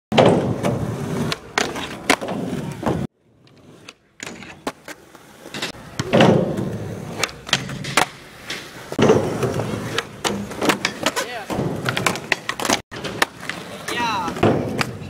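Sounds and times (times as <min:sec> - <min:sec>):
skateboard clacks: 0:00.1 - 0:15.0
skateboard wheels rolling on concrete: 0:00.1 - 0:15.0.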